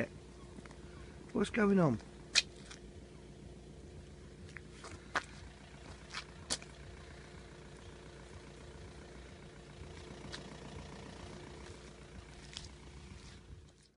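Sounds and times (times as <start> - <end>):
vehicle engine idling: 0.0 - 13.9.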